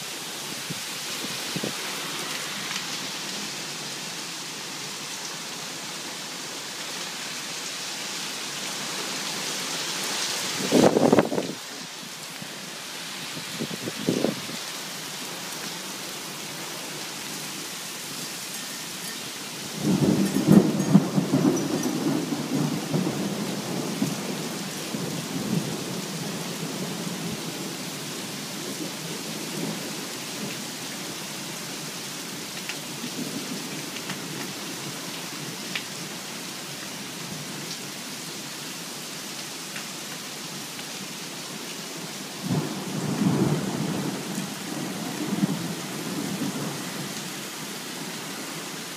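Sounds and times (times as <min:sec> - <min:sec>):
heavy rain: 0:00.0 - 0:48.9.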